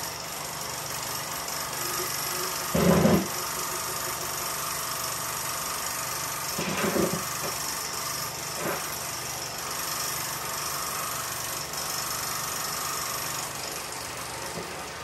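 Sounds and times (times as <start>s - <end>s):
film projector whirring: 0.0s - 15.0s.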